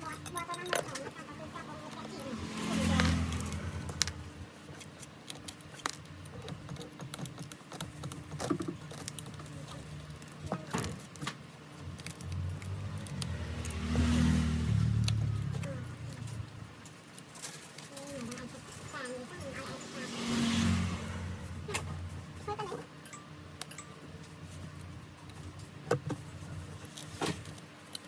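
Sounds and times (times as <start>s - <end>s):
small metal tools clicking: 0.0s - 19.6s, 22.7s - 25.7s.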